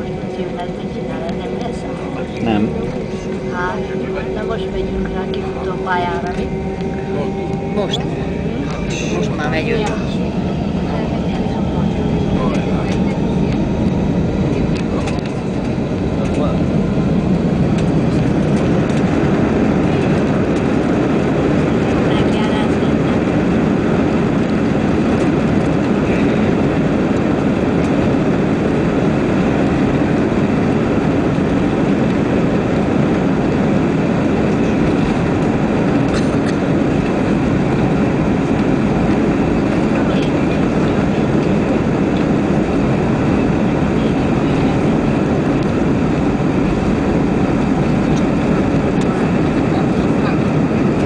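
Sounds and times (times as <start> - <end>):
jet engines at takeoff thrust: 0.0 - 51.0.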